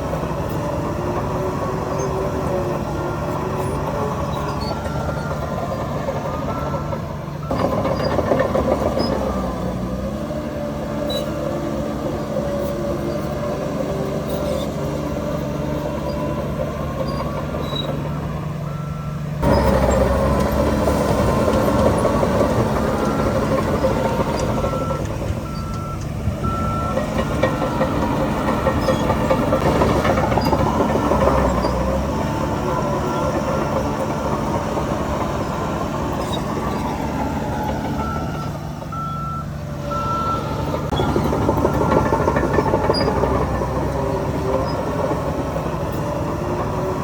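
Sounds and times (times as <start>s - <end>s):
heavy machinery diesel engines: 0.0s - 47.0s
reversing alarm beeping: 1.5s - 9.7s, 15.3s - 45.2s.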